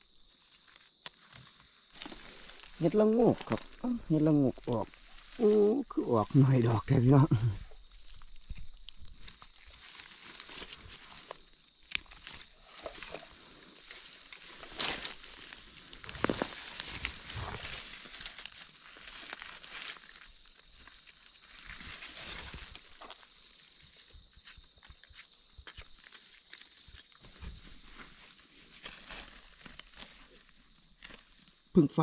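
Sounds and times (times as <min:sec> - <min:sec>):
dry leaves rustling: 0:00.0 - 0:31.6
twigs snapping: 0:00.3 - 0:05.8, 0:07.8 - 0:27.3, 0:28.8 - 0:31.6.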